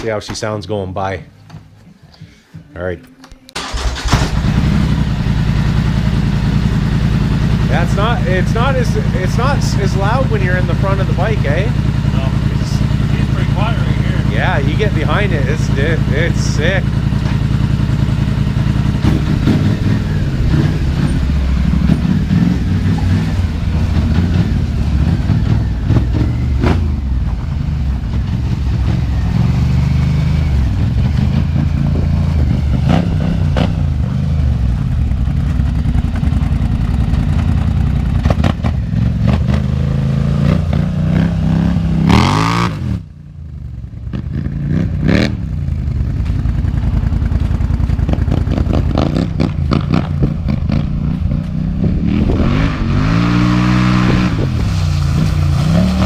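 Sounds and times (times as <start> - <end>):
atv engine revving: 3.5 - 56.0.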